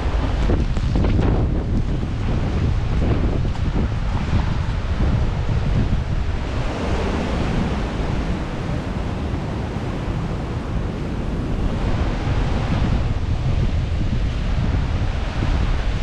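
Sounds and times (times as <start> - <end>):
sea surf rushing: 0.0 - 16.0
wind buffeting microphone: 0.0 - 16.0.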